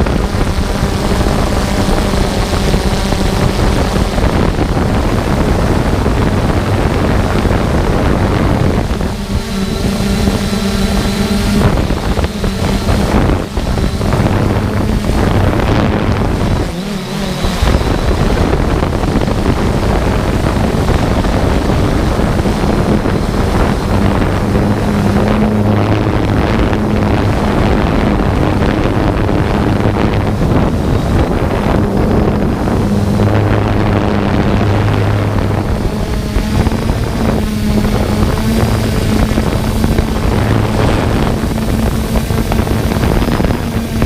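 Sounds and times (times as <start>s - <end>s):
drone propellers humming: 0.0s - 44.0s
wind noise on microphone: 0.0s - 44.0s.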